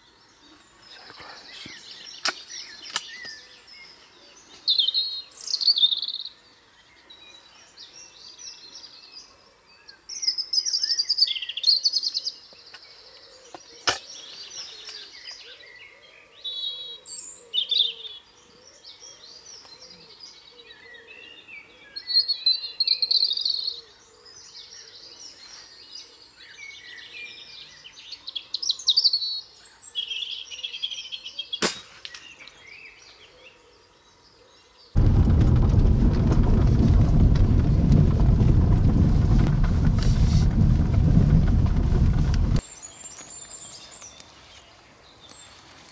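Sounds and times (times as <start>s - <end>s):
songbirds singing: 0.0s - 45.9s.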